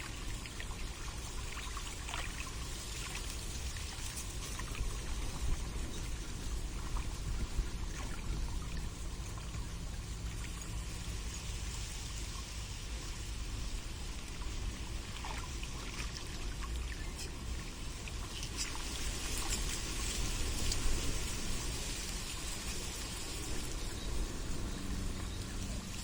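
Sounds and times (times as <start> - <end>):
low steady rumble: 0.0 - 26.0
water trickling: 0.0 - 26.0.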